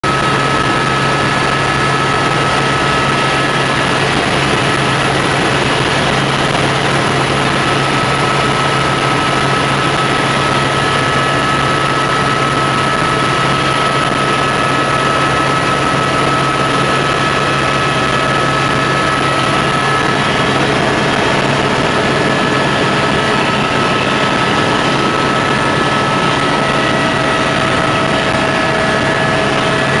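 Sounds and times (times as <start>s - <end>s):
helicopter engine and rotor: 0.0s - 30.0s.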